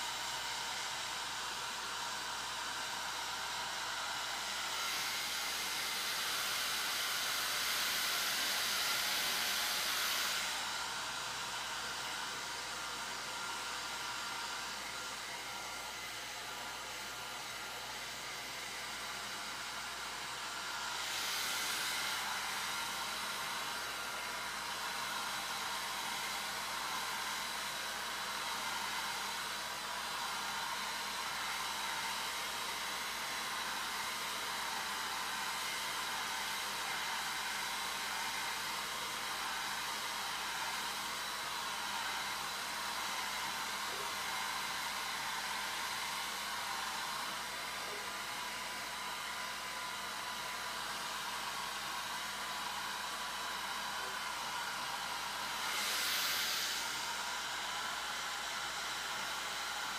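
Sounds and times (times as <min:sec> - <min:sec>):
hairdryer running: 0:00.0 - 0:59.9.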